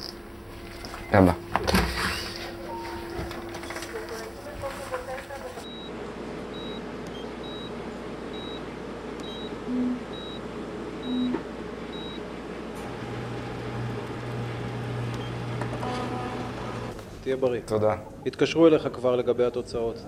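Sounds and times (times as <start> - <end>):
scanner humming: 0.0 - 17.0.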